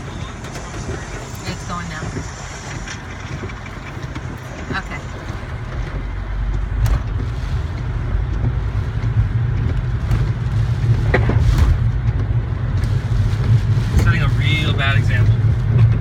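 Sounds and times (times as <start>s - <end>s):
wind and rain hiss: 0.0s - 15.7s
car engine and tyres rumble: 0.0s - 16.0s.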